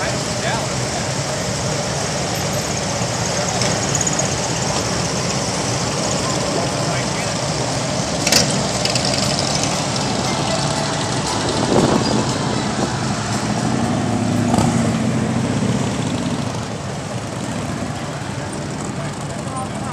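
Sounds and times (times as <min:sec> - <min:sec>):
motorcycles riding past: 0:00.0 - 0:19.9.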